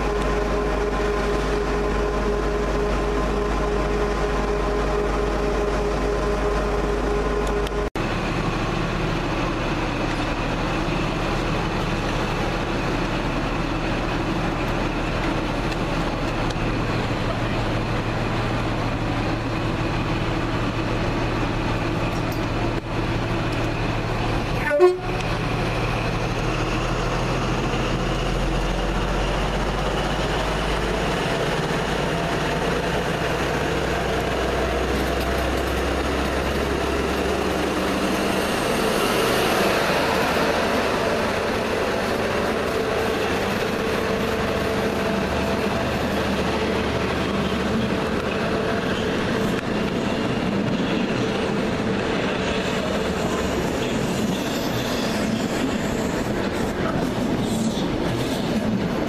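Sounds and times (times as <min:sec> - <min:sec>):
diesel train engines running: 0:00.0 - 0:59.0.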